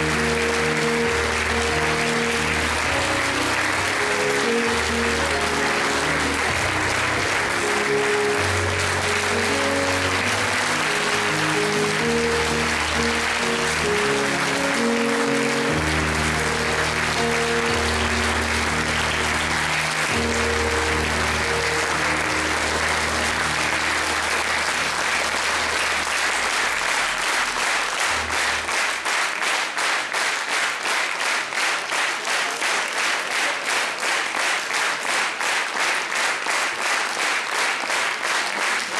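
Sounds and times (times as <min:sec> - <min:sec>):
audience applause: 0:00.0 - 0:38.9
rhythmic clapping in unison: 0:00.0 - 0:38.9.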